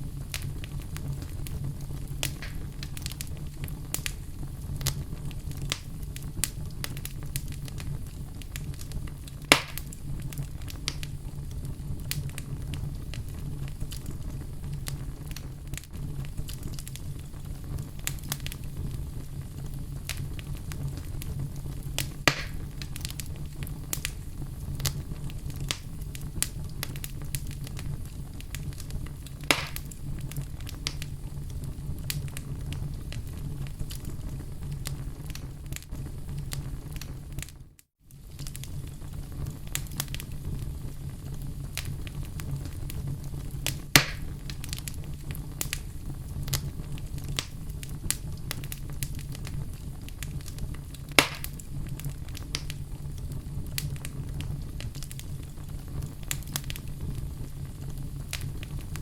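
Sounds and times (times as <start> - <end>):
wood fire crackling in fireplace: 0.0 - 59.0.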